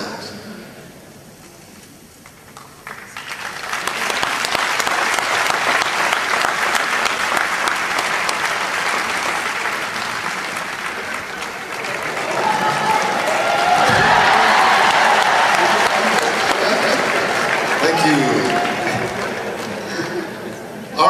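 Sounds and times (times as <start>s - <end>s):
audience applauding: 2.2s - 21.0s.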